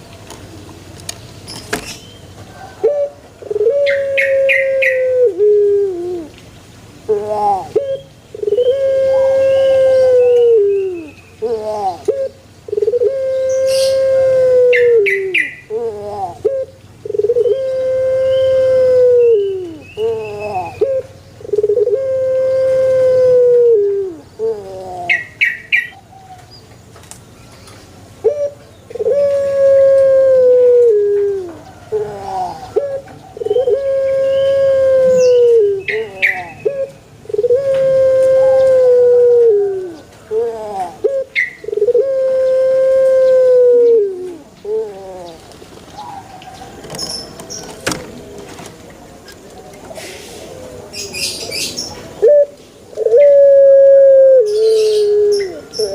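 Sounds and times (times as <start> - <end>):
dove cooing: 2.5 - 6.4, 7.1 - 26.4, 28.2 - 48.6, 49.6 - 55.9.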